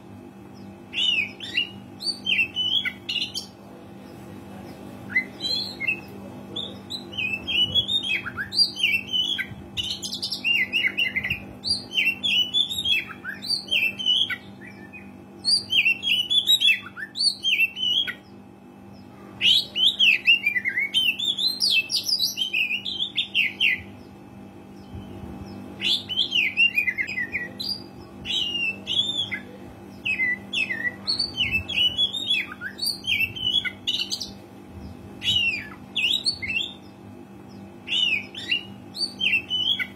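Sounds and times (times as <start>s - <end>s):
faint low hum: 0.0s - 39.9s
bird singing whistles and chatters: 0.6s - 4.2s, 5.0s - 18.3s, 19.4s - 24.1s, 24.8s - 34.4s, 35.2s - 39.9s.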